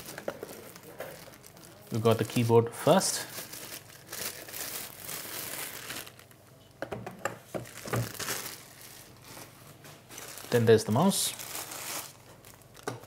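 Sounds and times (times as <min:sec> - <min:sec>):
plastic bag crinkling: 0:00.0 - 0:06.4, 0:07.6 - 0:13.0.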